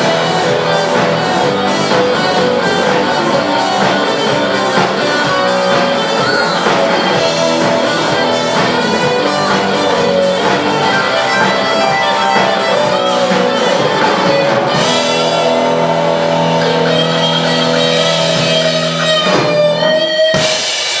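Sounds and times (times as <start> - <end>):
drum kit: 0.0 - 21.0
guitars: 0.0 - 21.0.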